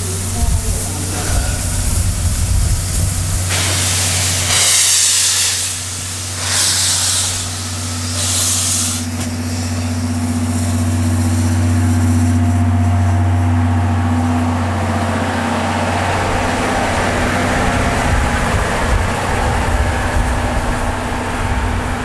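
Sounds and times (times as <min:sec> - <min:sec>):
steam exhaust blasts hissing: 0:00.0 - 0:22.0.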